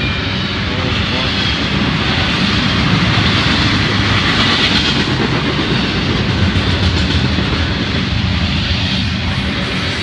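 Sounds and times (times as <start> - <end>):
freight train wheels rumbling on rails: 0.0 - 10.0.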